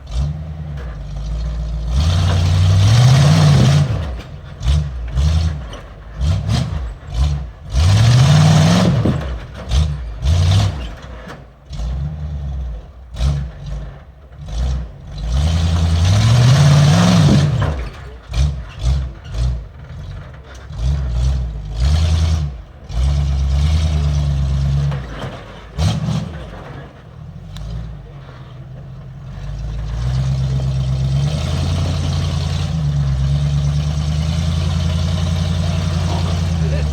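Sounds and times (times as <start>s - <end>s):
off-road vehicle engine revving: 0.0s - 36.9s.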